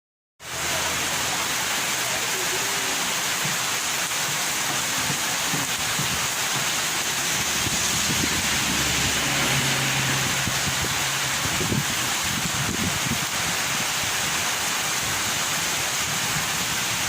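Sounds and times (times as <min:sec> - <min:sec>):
heavy rain pouring: 0:00.4 - 0:17.0.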